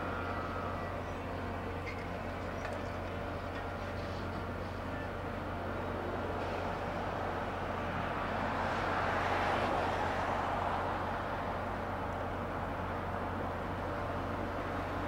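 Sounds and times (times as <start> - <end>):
diesel locomotive hum: 0.0 - 15.0.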